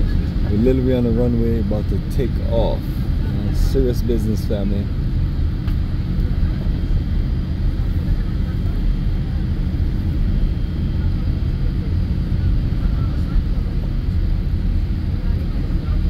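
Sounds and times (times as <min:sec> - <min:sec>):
jet engines low rumble: 0:00.0 - 0:16.0.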